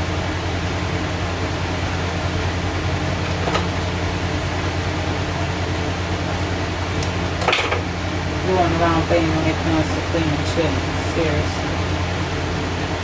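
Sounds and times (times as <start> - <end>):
machine hum with hiss: 0.0 - 13.0.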